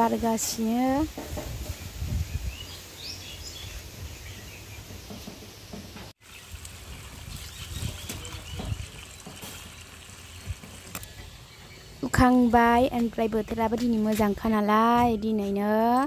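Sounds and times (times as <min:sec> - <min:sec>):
hose water splashing: 0:00.0 - 0:14.3
birds chirping: 0:01.6 - 0:14.6.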